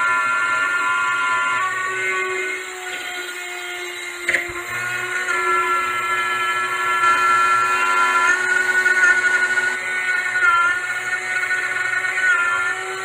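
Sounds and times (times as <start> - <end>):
rotary cutting tool whining: 0.0 - 13.0.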